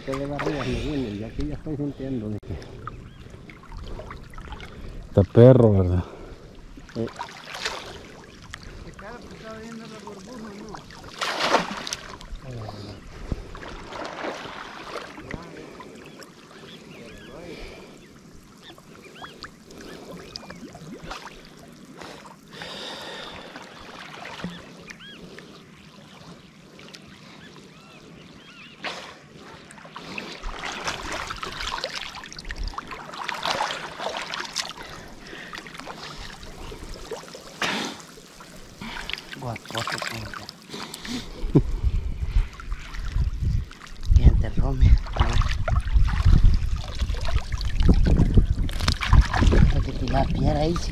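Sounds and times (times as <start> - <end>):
muddy water splashing: 0.0 - 50.9.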